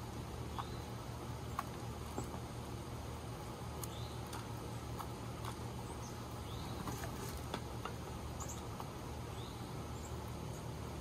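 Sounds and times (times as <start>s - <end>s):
low background hum: 0.0s - 11.0s
songbirds chirping: 0.0s - 11.0s.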